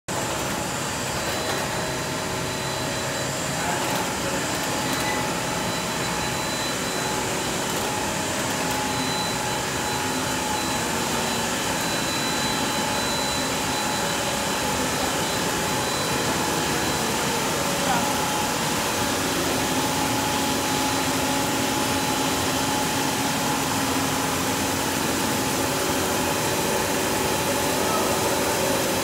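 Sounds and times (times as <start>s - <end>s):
conveyor machinery whirring: 0.1s - 29.0s
high constant whine: 0.1s - 29.0s.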